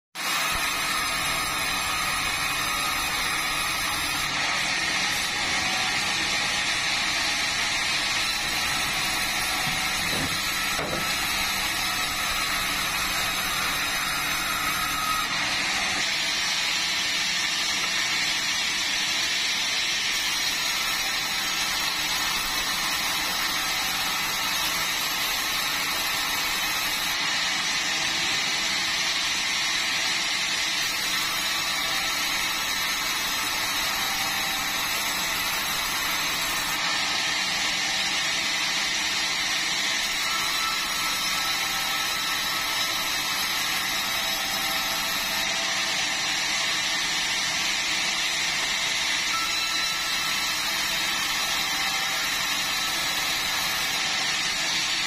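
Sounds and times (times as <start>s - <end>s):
band saw cutting log: 0.2s - 55.0s.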